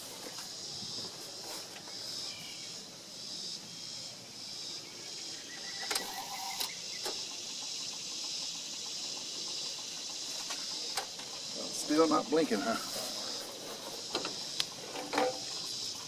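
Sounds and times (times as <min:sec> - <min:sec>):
pulsing high-pitched insect chorus: 0:00.0 - 0:16.0.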